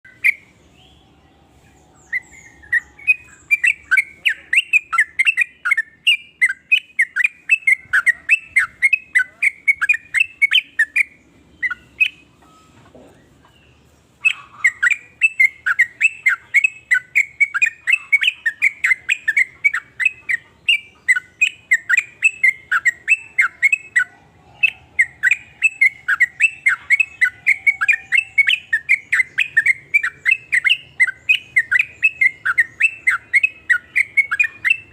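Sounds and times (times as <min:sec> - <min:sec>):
bird singing chattering notes: 0:00.1 - 0:34.9.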